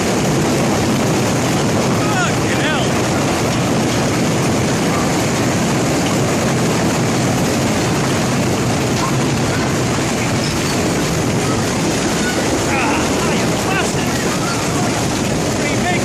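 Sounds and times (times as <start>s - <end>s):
hail and heavy rain pelting: 0.0s - 16.0s.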